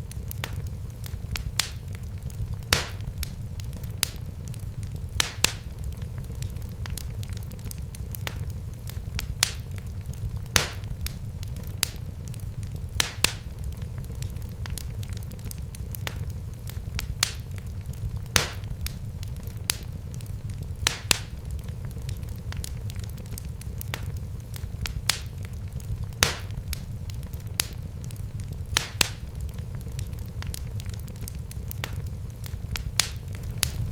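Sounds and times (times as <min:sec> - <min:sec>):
low fire rumble: 0:00.0 - 0:33.9
wood fire crackling: 0:00.0 - 0:33.9.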